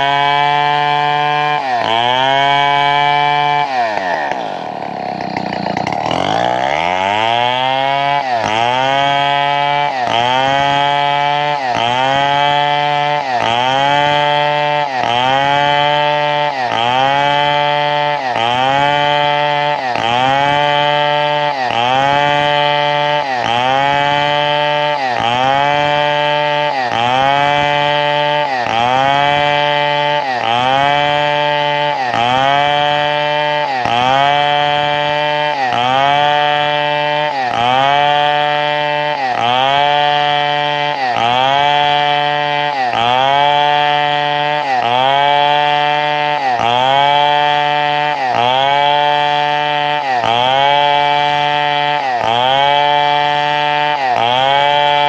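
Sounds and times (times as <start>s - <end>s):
chainsaw engine running hard: 0.0s - 55.0s.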